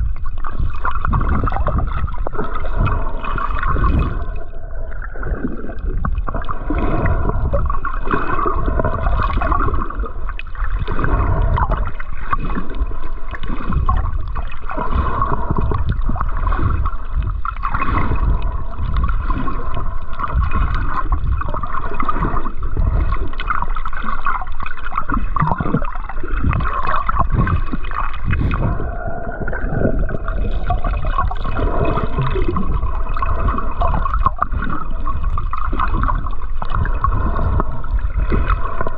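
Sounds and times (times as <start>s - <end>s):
water gurgling underwater: 0.0s - 38.9s.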